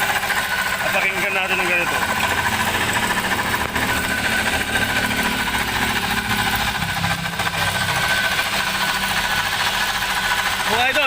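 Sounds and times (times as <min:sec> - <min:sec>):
alternator bearing whine: 0:00.0 - 0:11.0
car engine running: 0:00.0 - 0:11.0.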